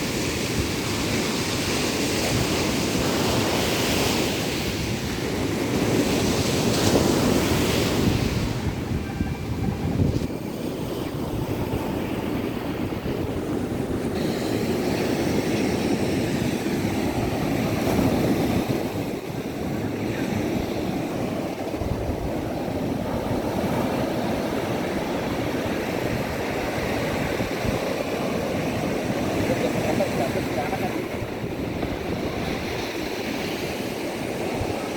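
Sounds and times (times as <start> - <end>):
sea surf washing onto beach: 0.0 - 34.9
wind rumbling on microphone: 0.0 - 34.9.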